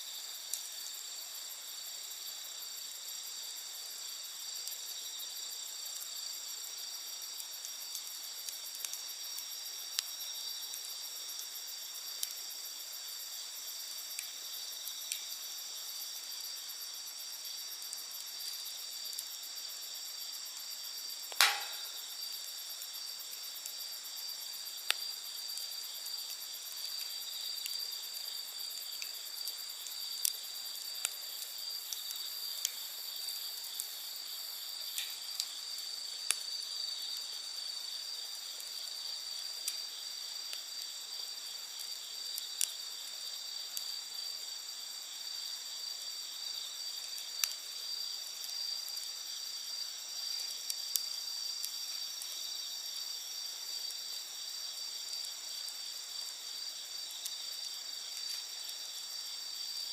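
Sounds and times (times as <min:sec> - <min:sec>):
campfire crackling: 0:00.0 - 0:59.9
crickets chirring: 0:00.0 - 0:59.9.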